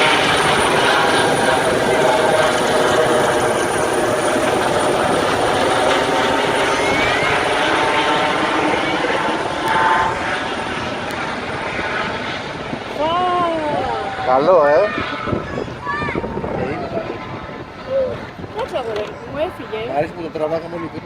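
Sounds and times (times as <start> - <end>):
helicopter rotor noise: 0.0 - 21.0.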